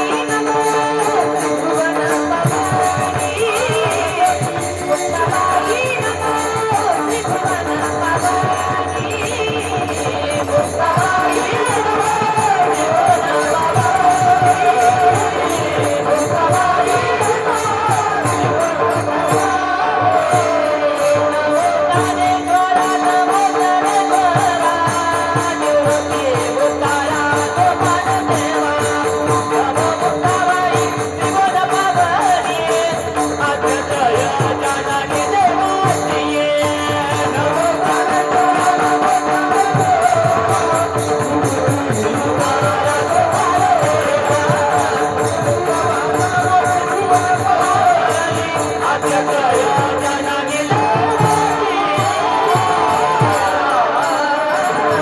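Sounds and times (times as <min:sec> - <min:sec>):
jingling hand percussion: 0:00.0 - 0:55.0.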